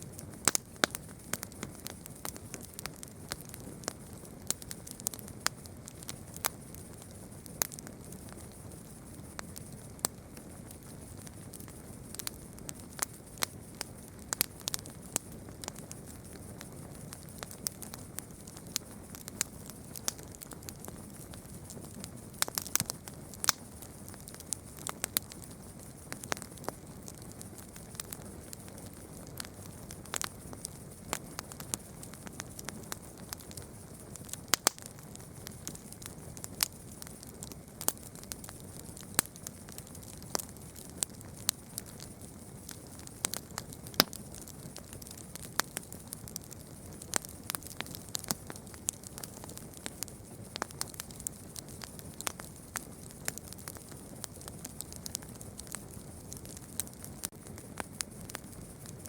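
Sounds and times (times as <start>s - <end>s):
campfire crackling and popping: 0.0s - 59.0s
flames hissing: 0.0s - 59.0s.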